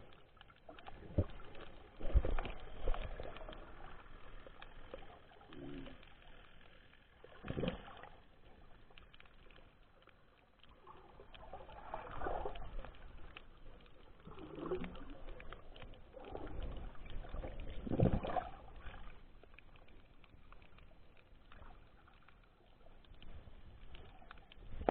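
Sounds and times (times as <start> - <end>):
muffled underwater sloshing and gurgling: 0.0 - 24.9.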